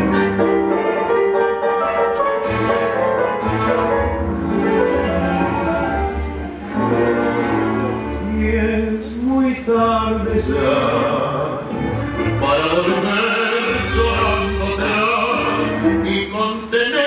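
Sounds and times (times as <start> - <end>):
tango band playing: 0.0 - 17.0.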